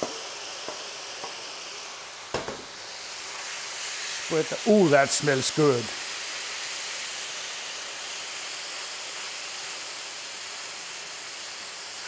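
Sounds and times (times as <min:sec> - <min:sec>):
chicken sizzling on a griddle: 0:00.0 - 0:12.0.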